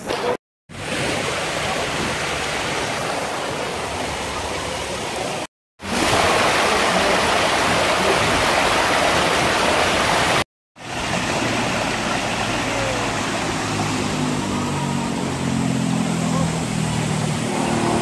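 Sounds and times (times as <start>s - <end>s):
water rushing down a waterslide: 0.0s - 18.0s.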